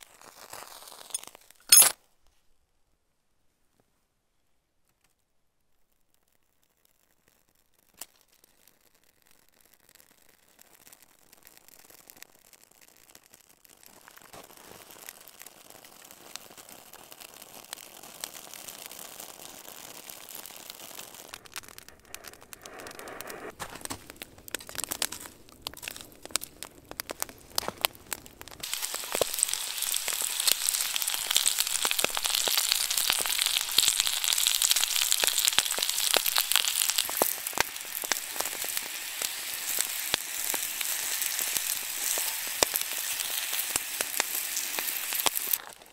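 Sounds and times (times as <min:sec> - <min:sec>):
dense sizzle with crackles: 0:00.0 - 0:01.8, 0:04.8 - 0:45.9
fire crackling: 0:00.0 - 0:01.9, 0:04.9 - 0:45.9.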